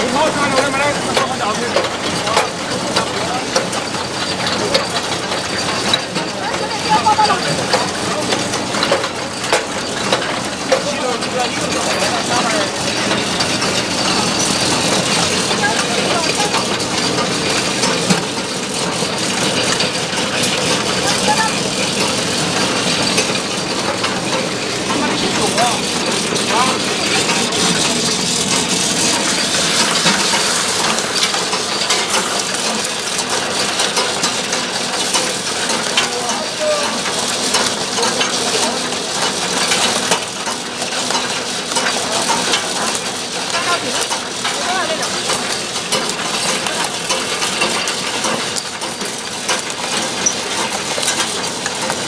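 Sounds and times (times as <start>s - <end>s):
machine mechanical clatter: 0.0s - 52.0s.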